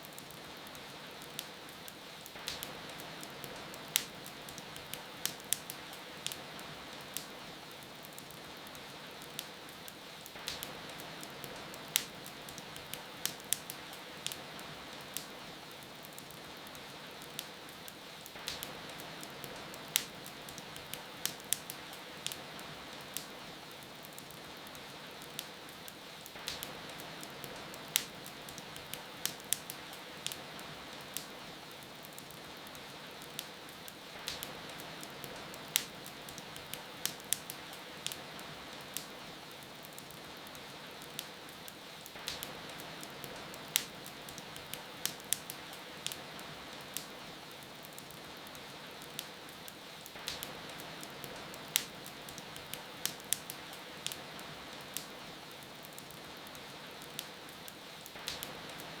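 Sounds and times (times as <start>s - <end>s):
rain hiss: 0.0s - 59.0s
wood fire crackling and popping: 0.0s - 59.0s.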